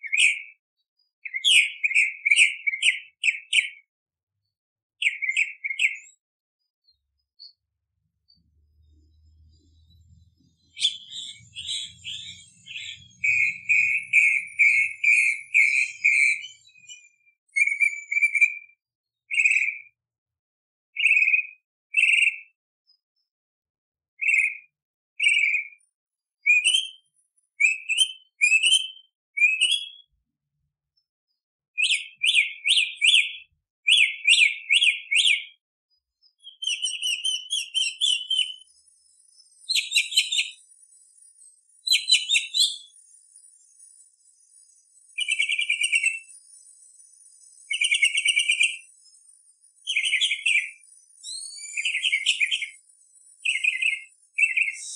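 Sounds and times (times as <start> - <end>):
mockingbird singing whistled phrases: 0.0 - 3.9, 5.0 - 6.2, 8.3 - 20.0, 21.0 - 22.6, 24.2 - 25.8, 26.4 - 30.2, 31.8 - 35.6, 36.2 - 54.9.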